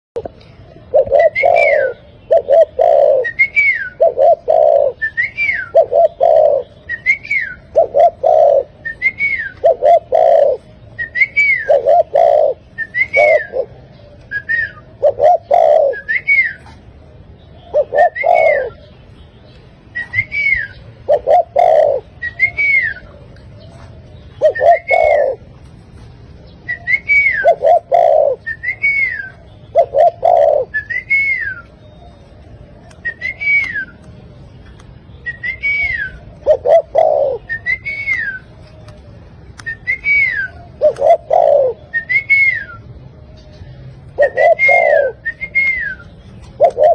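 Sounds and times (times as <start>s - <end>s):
bird cooing and whistling: 0.2s - 16.8s, 17.5s - 19.0s, 19.9s - 25.6s, 26.4s - 34.0s, 35.2s - 46.9s.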